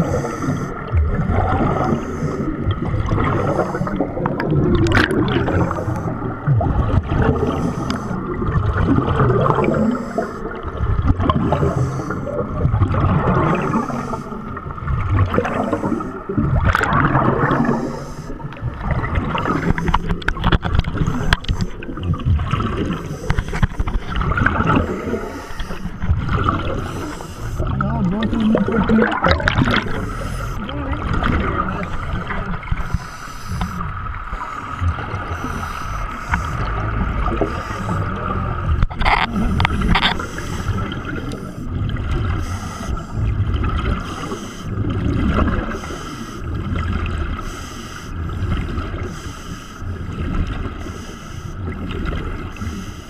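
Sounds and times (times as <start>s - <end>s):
underwater air bubbles and gurgles: 0.0s - 53.0s.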